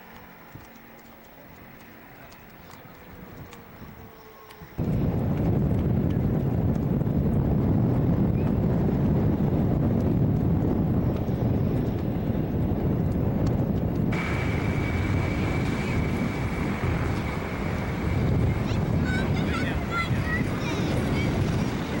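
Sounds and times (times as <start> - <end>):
wind buffeting microphone: 1.6 - 22.0.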